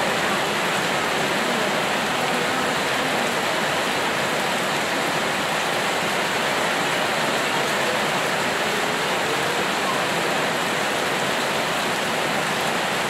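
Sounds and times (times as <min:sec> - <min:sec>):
heavy rainfall: 0:00.0 - 0:13.0.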